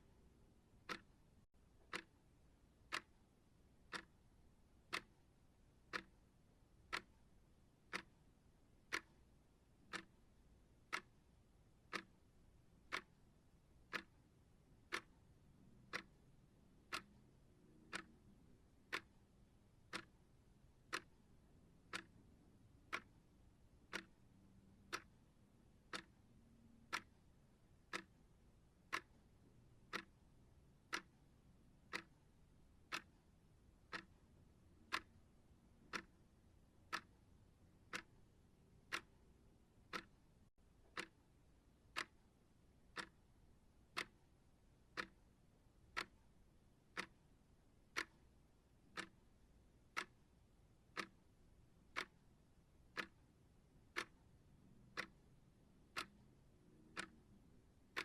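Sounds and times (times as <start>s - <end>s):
clock ticking: 0.0s - 58.0s.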